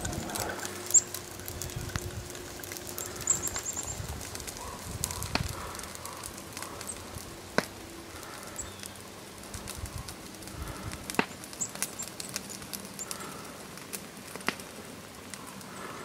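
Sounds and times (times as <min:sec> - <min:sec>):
light crackles and clicks: 0:00.0 - 0:16.0.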